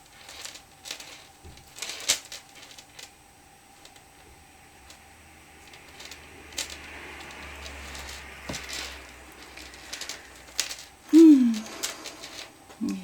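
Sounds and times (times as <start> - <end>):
soft rustling of craft materials: 0.0 - 13.0.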